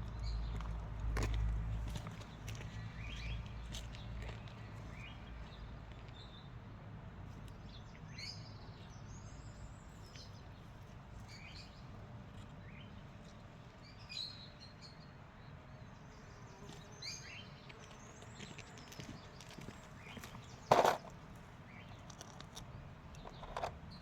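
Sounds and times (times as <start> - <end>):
small birds chirping: 1.9 - 6.6, 7.3 - 24.0.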